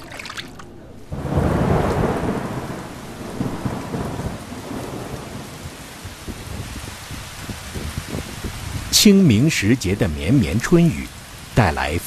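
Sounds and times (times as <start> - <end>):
steady rain: 0.0 - 12.0
thunder rolling: 0.7 - 10.6.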